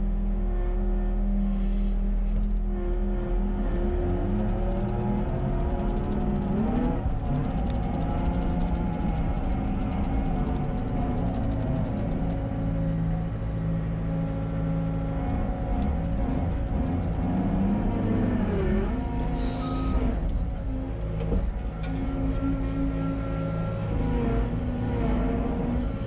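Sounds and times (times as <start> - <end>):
diesel engine revving: 3.3 - 26.0.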